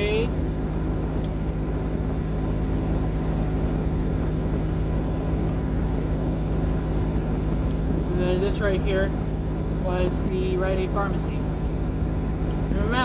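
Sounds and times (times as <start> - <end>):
air conditioning blowing: 0.0 - 13.0
car engine hum inside cabin: 0.0 - 13.0.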